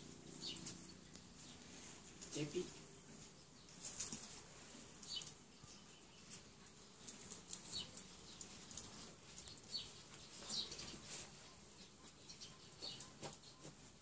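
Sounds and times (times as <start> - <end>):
small birds chirping: 0.0 - 14.0
soft rustles: 0.1 - 14.0.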